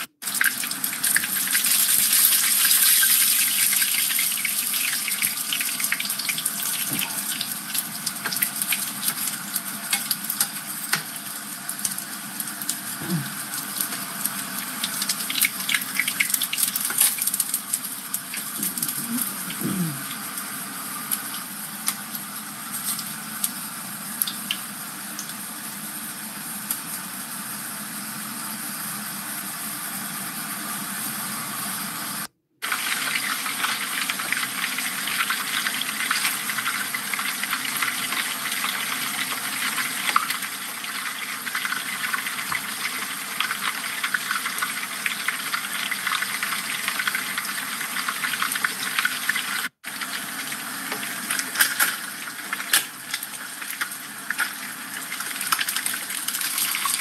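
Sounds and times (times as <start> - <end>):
fish deep-frying in hot oil: 0.0 - 57.0.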